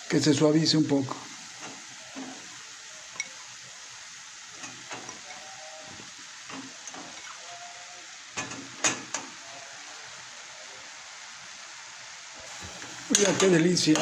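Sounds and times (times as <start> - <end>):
pork and onion sizzling: 0.0 - 14.0.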